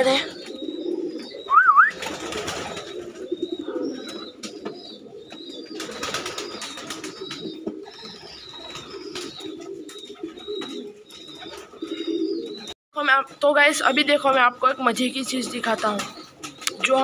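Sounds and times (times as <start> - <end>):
pigeons cooing: 0.0 - 12.8, 13.8 - 17.0.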